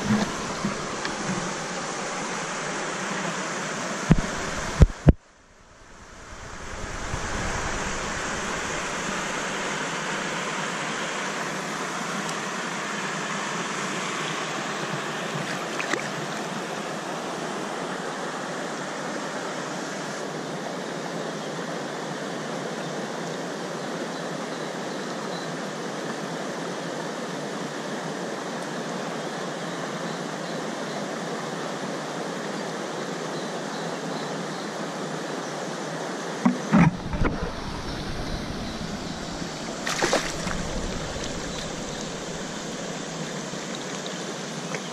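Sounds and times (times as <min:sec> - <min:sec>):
river water flowing over stones: 0:00.0 - 0:24.9, 0:25.5 - 0:44.9.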